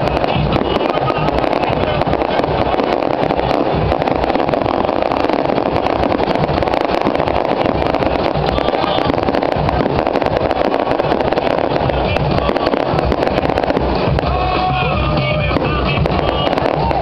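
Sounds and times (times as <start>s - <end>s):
large outdoor crowd din: 0.0s - 17.0s.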